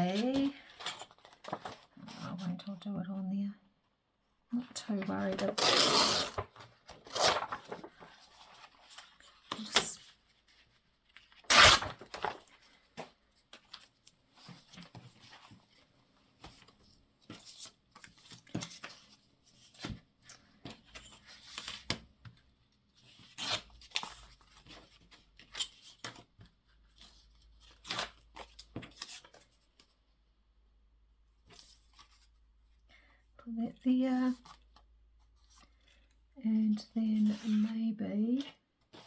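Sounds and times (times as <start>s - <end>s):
paper and card rustling: 0.0s - 2.6s, 4.6s - 30.0s, 33.8s - 39.0s.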